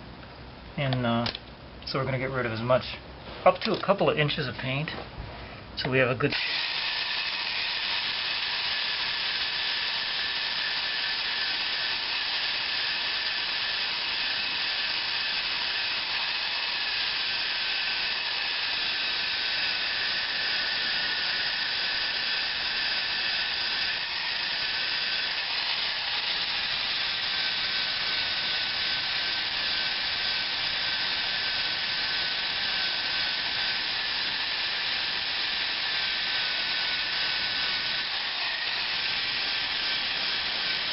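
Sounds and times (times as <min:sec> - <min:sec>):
drill motor whine: 0:06.3 - 0:40.9.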